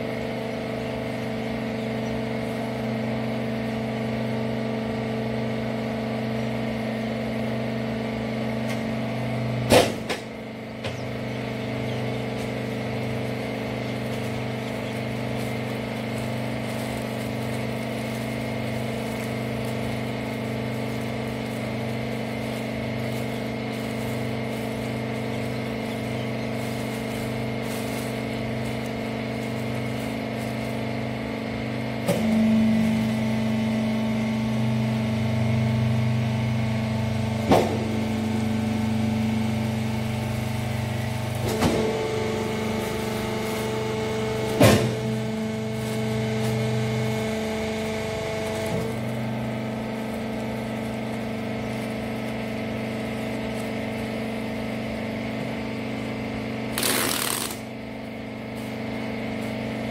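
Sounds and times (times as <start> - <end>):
hydraulic pump humming: 0.0 - 59.9.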